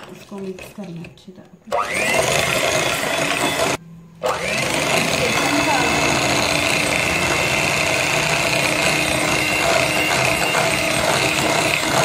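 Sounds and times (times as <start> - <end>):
electric hand mixer whining: 1.7 - 12.0.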